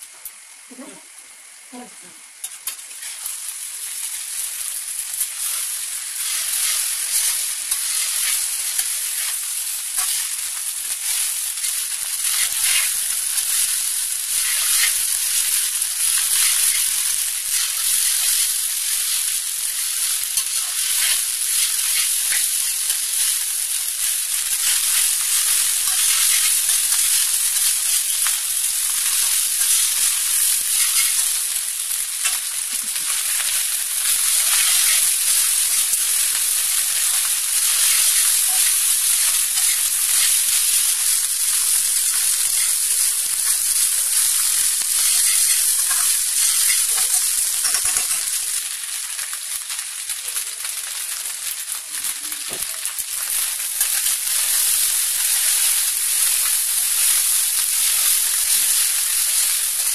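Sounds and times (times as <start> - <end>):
rice and vegetables sizzling: 0.0 - 59.9.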